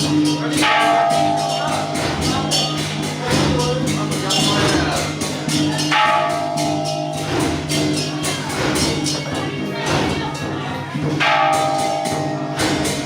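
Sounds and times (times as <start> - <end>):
clashing percussion: 0.0 - 13.0.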